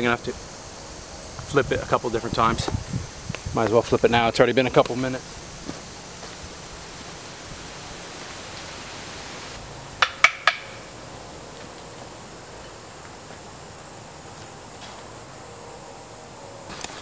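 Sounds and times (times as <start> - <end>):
woodland ambience hiss: 0.0 - 17.0.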